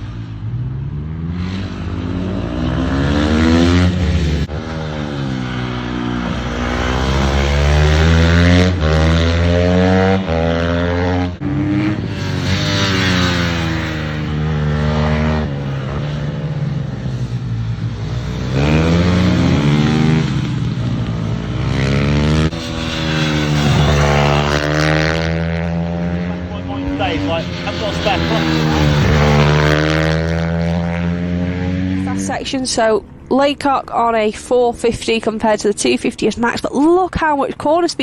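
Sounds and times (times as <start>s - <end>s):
racing motorcycle engine revving: 0.0s - 35.7s.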